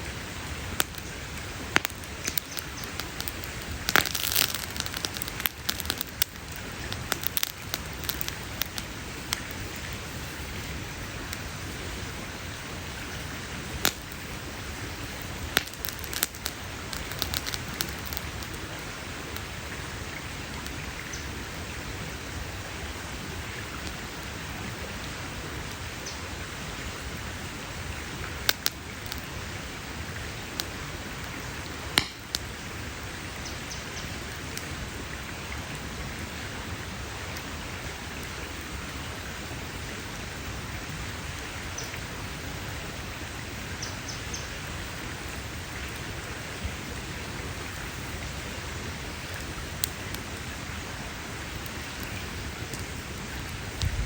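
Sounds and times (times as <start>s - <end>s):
campfire crackling and popping: 0.0s - 35.0s, 43.2s - 54.0s.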